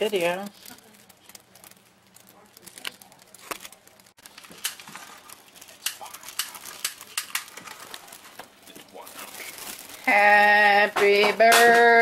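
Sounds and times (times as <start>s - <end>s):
sparklers fizzing and crackling: 0.0s - 12.0s.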